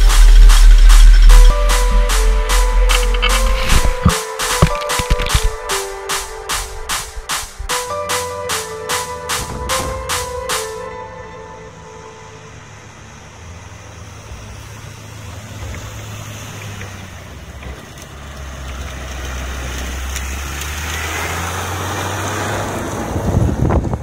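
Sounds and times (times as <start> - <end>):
tractor diesel engine passing: 0.0 - 24.0.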